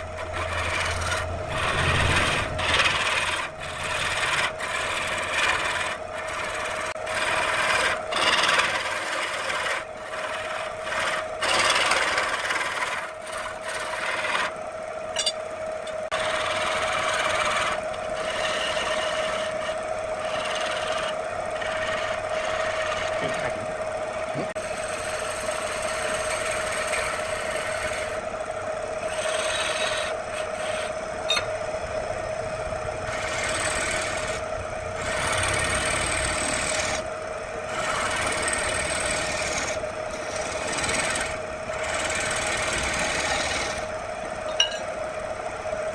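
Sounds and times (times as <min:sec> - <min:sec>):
chisel scraping spinning wood: 0:00.0 - 0:45.0
wood lathe humming: 0:00.0 - 0:45.9.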